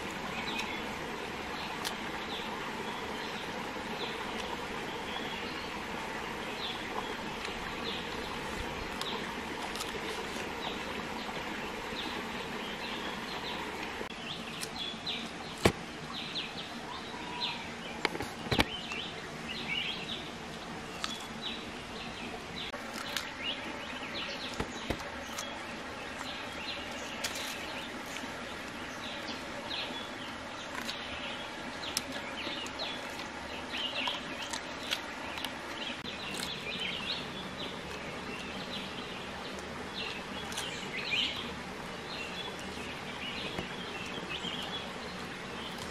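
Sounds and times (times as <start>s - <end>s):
outdoor background hiss: 0.0s - 45.9s.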